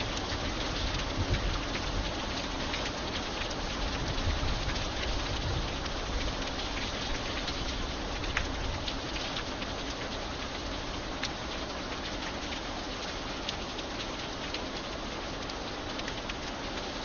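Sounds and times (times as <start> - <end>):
light rain hissing: 0.0 - 17.0
raindrops ticking: 0.0 - 17.0.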